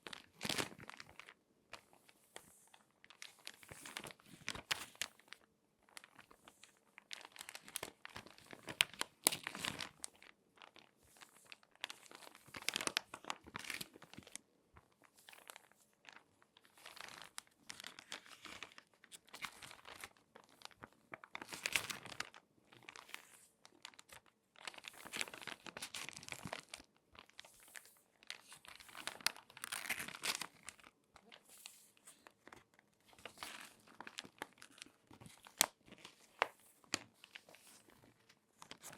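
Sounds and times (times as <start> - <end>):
magazine pages crinkling: 0.0 - 38.9.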